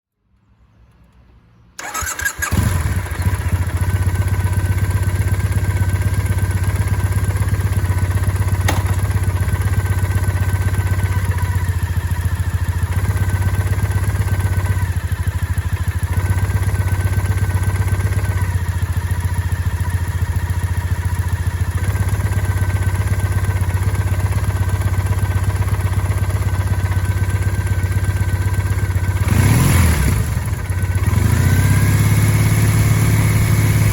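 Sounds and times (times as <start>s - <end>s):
motorcycle engine idling: 1.8s - 33.9s.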